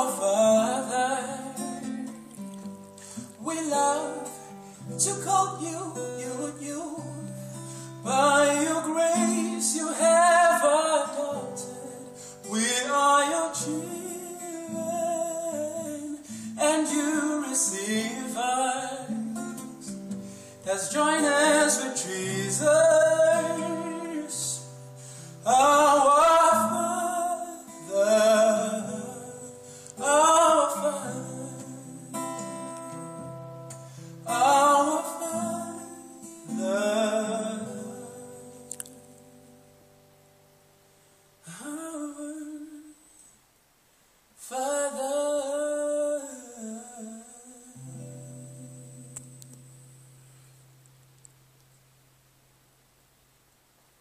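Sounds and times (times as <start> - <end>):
man singing with vibrato: 0.0 - 39.8, 41.4 - 43.2, 44.4 - 49.8
acoustic guitar: 0.0 - 53.9.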